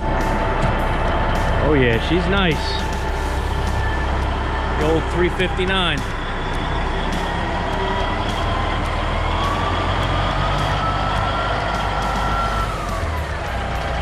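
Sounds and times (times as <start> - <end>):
engine whine: 0.0 - 14.0
truck diesel engine running: 0.0 - 14.0.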